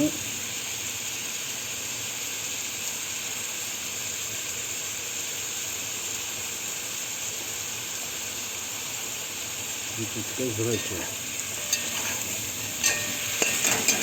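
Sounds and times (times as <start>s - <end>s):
chicken sizzling in a pot: 0.0s - 14.0s.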